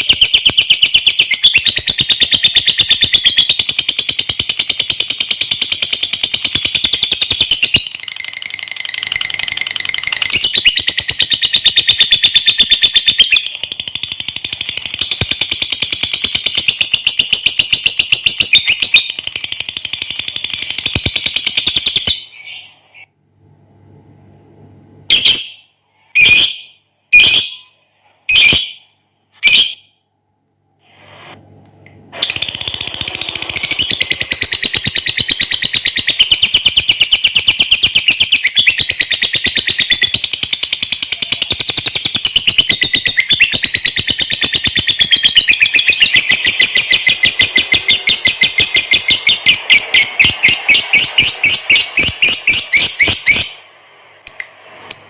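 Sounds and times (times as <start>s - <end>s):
lovebird calling and trilling: 0.0s - 23.1s, 32.2s - 55.0s.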